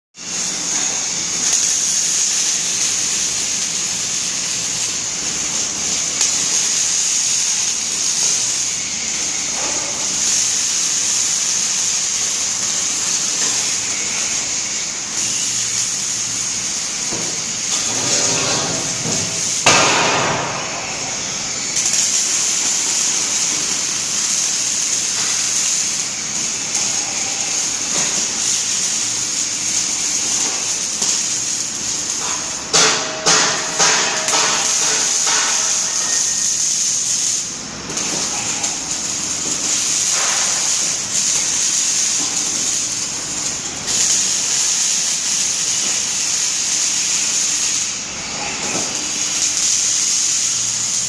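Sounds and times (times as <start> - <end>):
welding arc crackling: 0.2 - 51.0.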